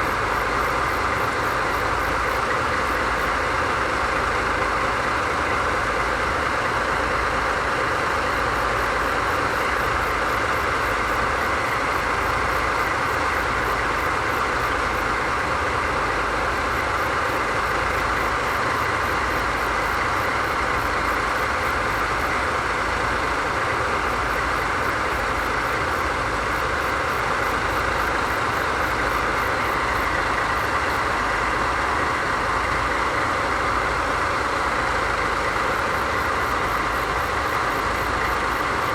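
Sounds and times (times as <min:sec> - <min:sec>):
diesel locomotive engines idling: 0:00.0 - 0:38.9.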